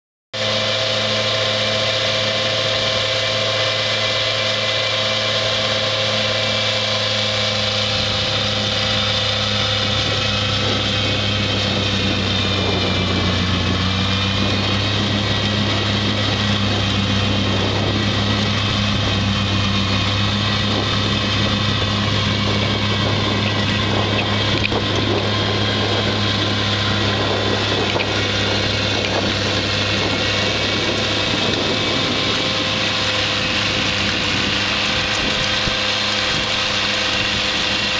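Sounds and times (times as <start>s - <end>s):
mower engine running: 0.4s - 37.9s
snow blower throwing snow hiss: 0.4s - 37.9s.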